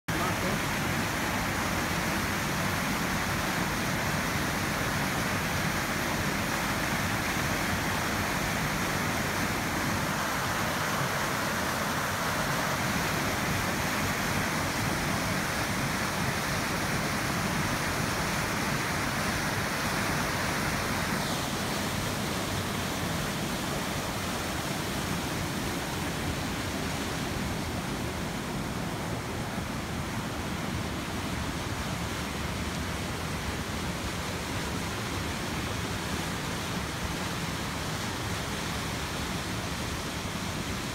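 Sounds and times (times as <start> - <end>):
water rushing and splashing: 0.1 - 40.9.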